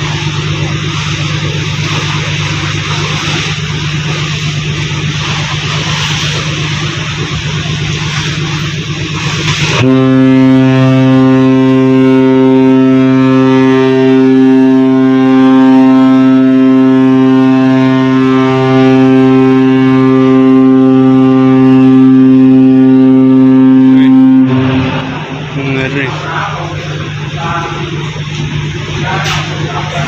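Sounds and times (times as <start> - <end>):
ship's horn blast: 0.0 - 30.0.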